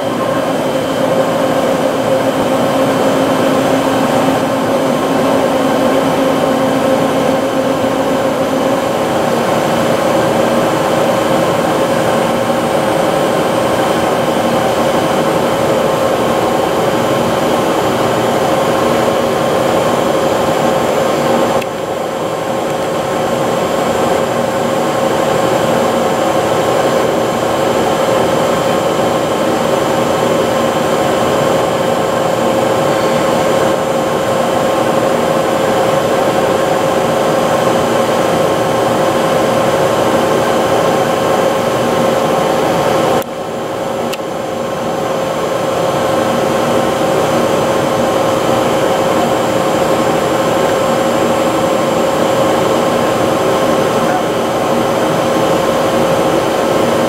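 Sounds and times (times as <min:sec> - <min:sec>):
lathe mechanical hum: 0:00.0 - 0:57.0
machine whining tones: 0:00.0 - 0:57.0.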